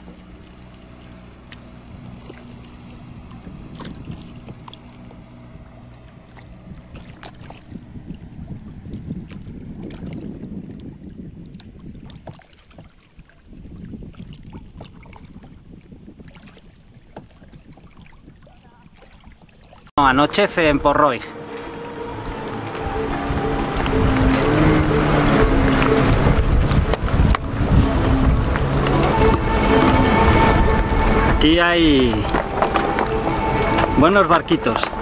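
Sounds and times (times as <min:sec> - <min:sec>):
small boat motor running: 0:00.0 - 0:12.0, 0:14.6 - 0:35.0
water splashing along hull: 0:00.0 - 0:35.0.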